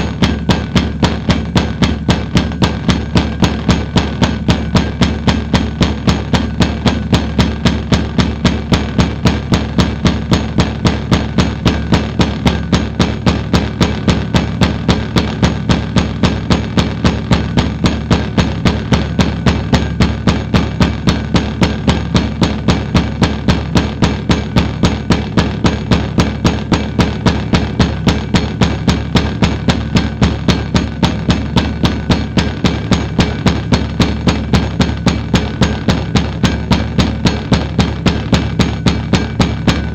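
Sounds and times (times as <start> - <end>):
low pulsing drone: 0.0 - 39.9.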